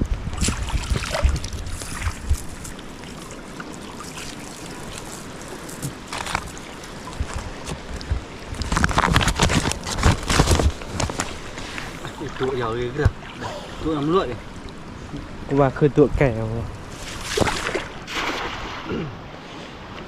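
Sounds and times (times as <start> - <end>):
wind rumbling on microphone: 0.0 - 20.0
water splashing: 0.2 - 15.7, 16.8 - 19.2.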